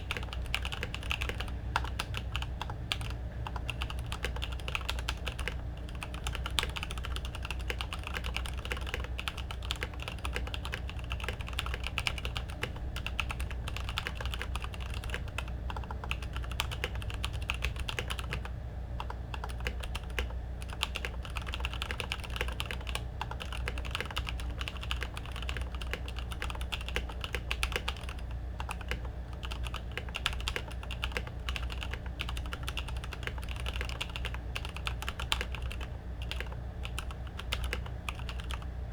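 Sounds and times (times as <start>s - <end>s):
fast typing on mechanical keyboard: 0.0s - 38.7s
steady low hum: 0.0s - 38.9s.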